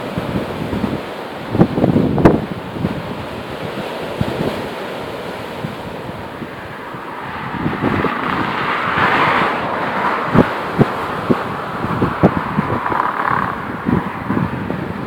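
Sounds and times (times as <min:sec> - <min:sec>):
wind thumps on microphone: 0:00.0 - 0:04.6, 0:05.6 - 0:15.0
sea surf breaking on concrete: 0:00.0 - 0:15.0.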